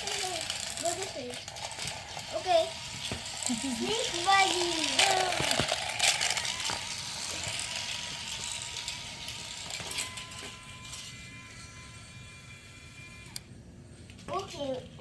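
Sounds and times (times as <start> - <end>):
faint steady whine: 0.0 - 15.0
toy motor and gears whirring: 0.0 - 15.0.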